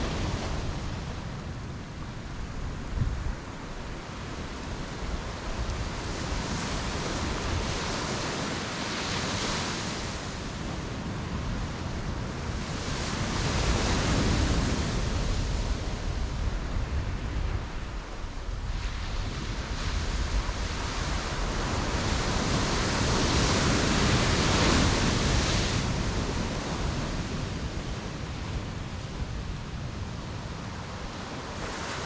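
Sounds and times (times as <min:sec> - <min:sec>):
waves breaking on beach: 0:00.0 - 0:32.0.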